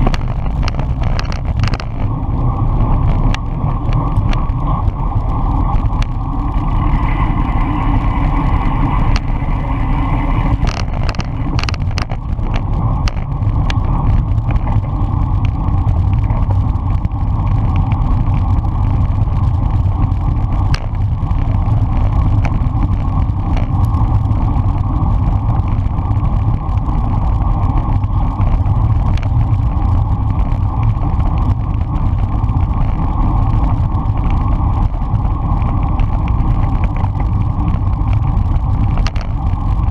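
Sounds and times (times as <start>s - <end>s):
bike tyres on asphalt: 0.0s - 39.9s
wind rushing over microphone: 0.0s - 39.9s.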